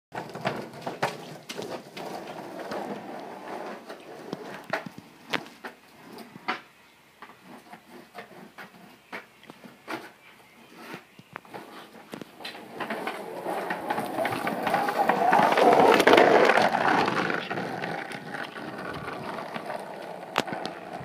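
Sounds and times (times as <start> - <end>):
skateboard clacks and knocks: 0.1 - 5.8, 6.4 - 21.0
skateboard wheels rolling on concrete: 0.1 - 21.0.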